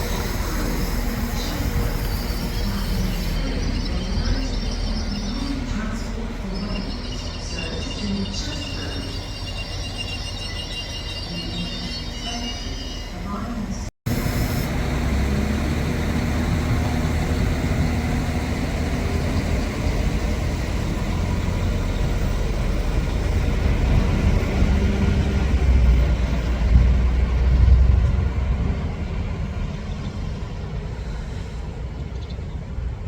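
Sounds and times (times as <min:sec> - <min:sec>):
diesel train engine throbbing: 0:00.0 - 0:11.2, 0:13.3 - 0:33.0.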